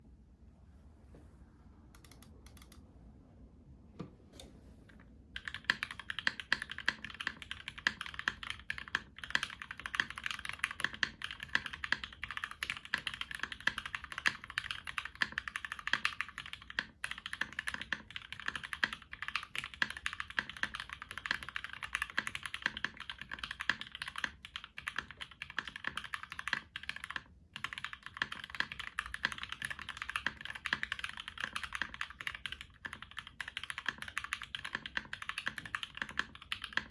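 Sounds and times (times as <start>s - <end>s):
typing on mechanical keyboard: 2.0s - 2.8s, 5.4s - 36.9s.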